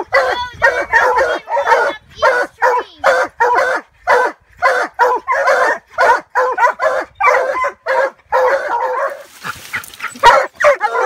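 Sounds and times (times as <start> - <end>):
hound barking and bawling: 0.0 - 11.0.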